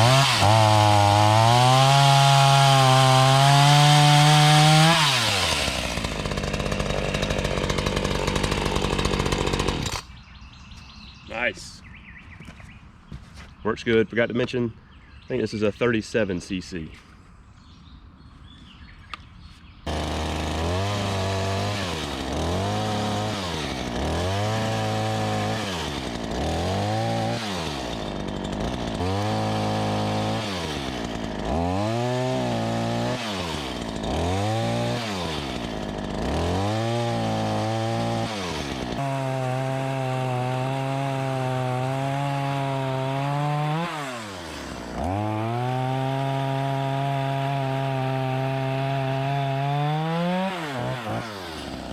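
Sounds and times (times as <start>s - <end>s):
chainsaw engine revving: 0.0s - 10.1s, 19.9s - 51.9s.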